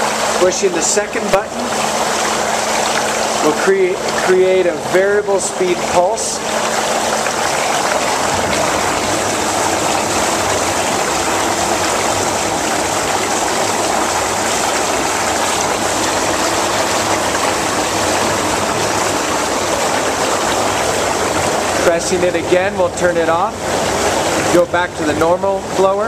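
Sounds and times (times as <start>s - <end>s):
whirlpool tub jets rushing water: 0.0s - 26.0s.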